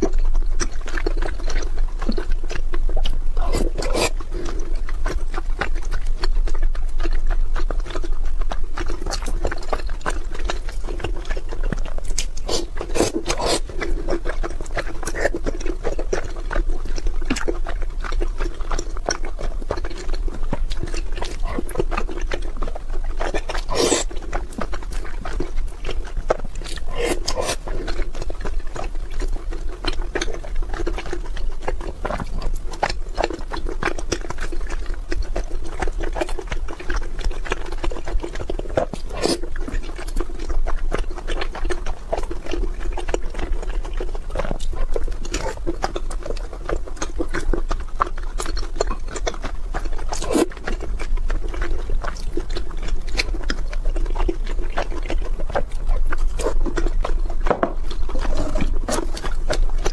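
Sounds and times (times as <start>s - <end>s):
person chewing wet food: 0.0s - 59.9s.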